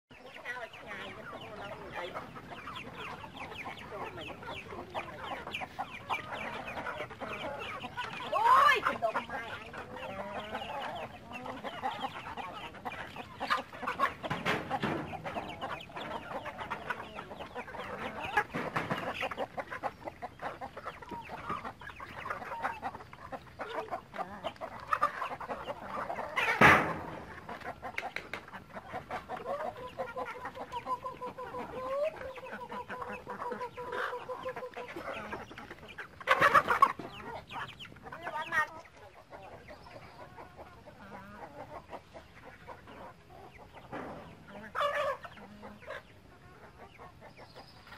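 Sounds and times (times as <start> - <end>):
chickens clucking: 0.1 - 47.9
chickens squawking: 0.1 - 47.9.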